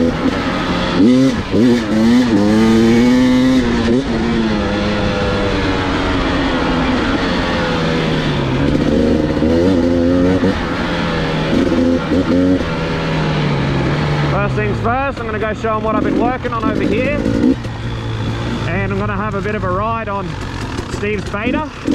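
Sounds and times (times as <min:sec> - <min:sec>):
dirt bike engines revving: 0:00.0 - 0:21.9.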